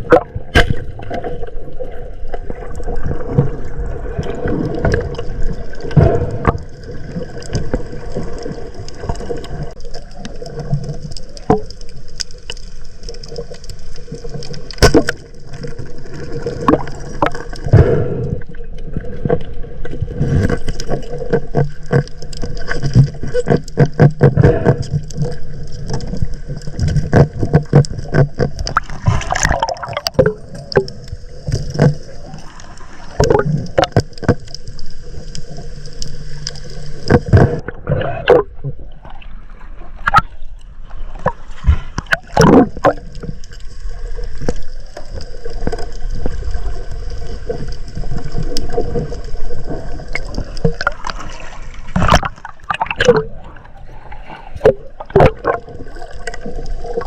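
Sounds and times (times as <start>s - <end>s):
water gurgling and sloshing: 0.0s - 57.0s.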